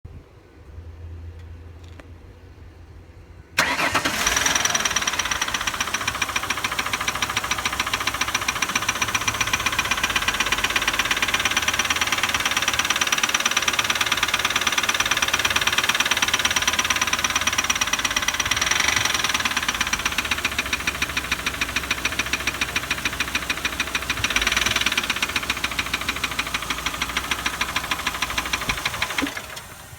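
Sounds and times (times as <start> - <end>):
engine ticking and clicking: 3.6 - 29.9.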